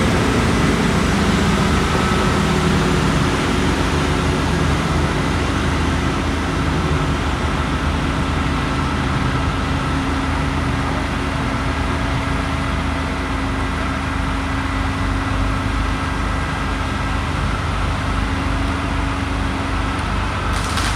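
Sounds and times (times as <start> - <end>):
crane diesel engine running: 0.0 - 20.9.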